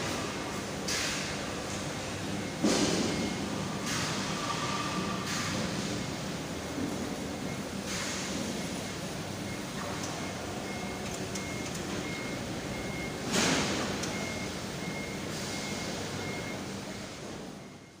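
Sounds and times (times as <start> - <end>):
car wash machinery running: 0.0 - 18.0.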